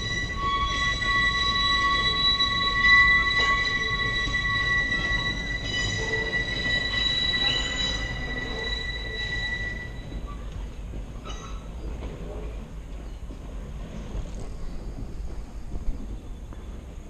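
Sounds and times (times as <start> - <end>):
low rumble of train running gear: 0.0 - 17.0
train wheels squealing: 0.0 - 17.0.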